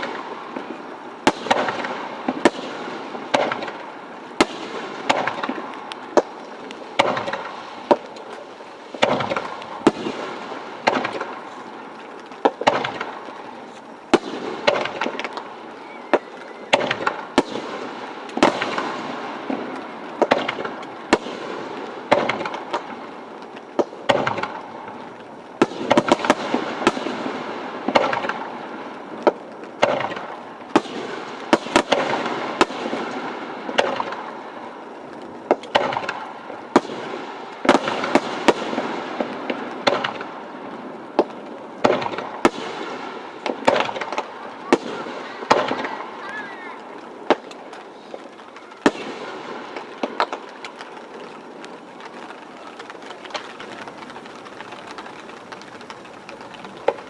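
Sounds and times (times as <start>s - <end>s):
firework crackling: 0.0s - 57.0s
firework shells bursting: 0.0s - 57.0s.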